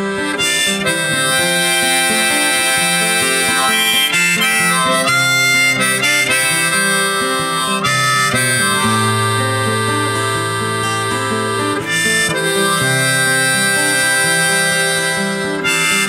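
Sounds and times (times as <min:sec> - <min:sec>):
guitar accompaniment: 0:00.0 - 0:16.0
harmonica melody: 0:00.0 - 0:16.0.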